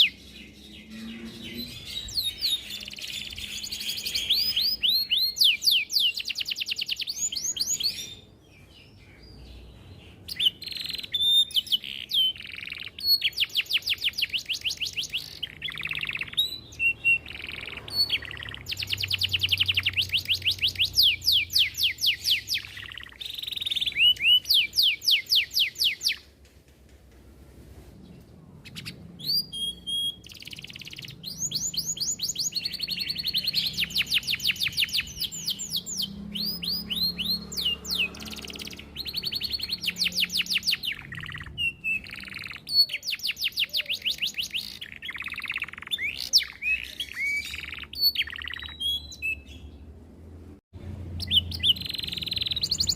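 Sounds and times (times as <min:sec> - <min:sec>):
canary singing: 0:00.0 - 0:26.4, 0:28.3 - 0:50.3, 0:51.0 - 0:52.9.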